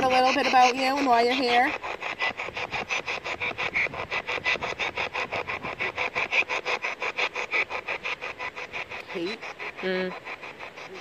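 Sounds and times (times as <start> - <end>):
rapid chopping radio static: 0.0 - 11.0.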